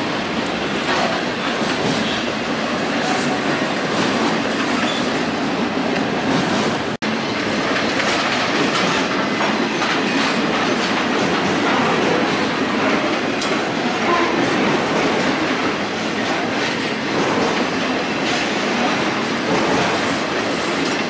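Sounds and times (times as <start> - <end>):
steel wheels on rail: 0.0 - 21.0.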